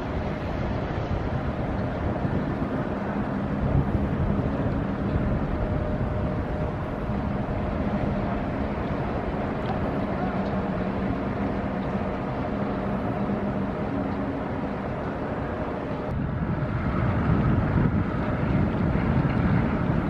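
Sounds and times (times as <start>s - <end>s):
ship diesel engine drone: 0.0s - 20.0s.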